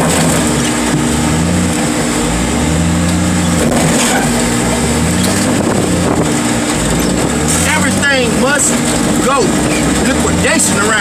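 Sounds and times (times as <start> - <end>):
loader engine revving: 0.0 - 11.0.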